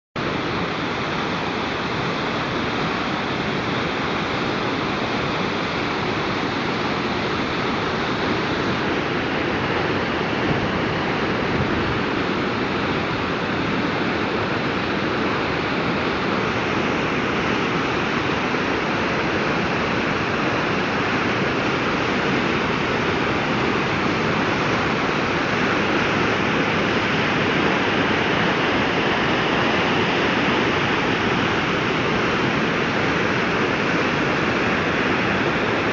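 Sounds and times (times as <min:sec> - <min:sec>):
waterfall rushing: 0:00.2 - 0:35.9.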